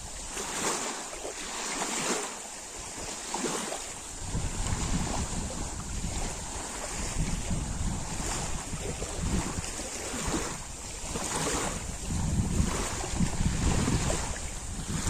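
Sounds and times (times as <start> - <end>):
lake water splashing and lapping: 0.0 - 15.0
wind buffeting microphone: 2.8 - 15.0.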